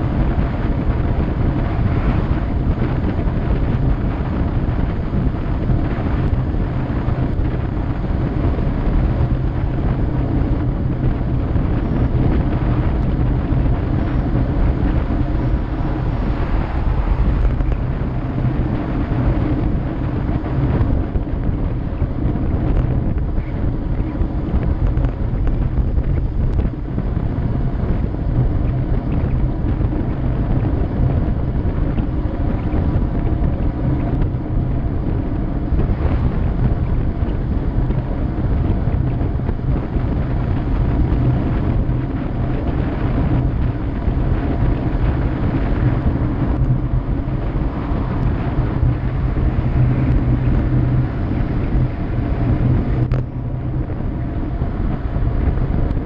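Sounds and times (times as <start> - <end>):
heavy wind noise on microphone: 0.0 - 56.0.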